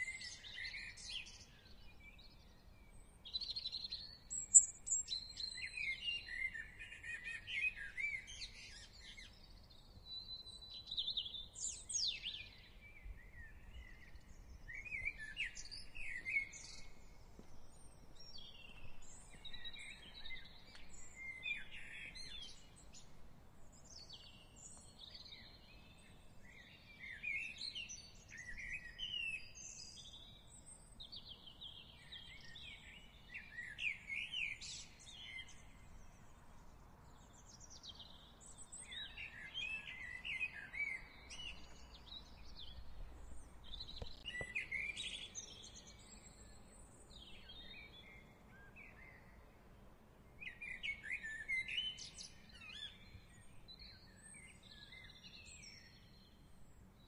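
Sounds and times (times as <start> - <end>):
faint low background noise: 0.0 - 57.0
songbirds singing and calling: 0.0 - 57.0.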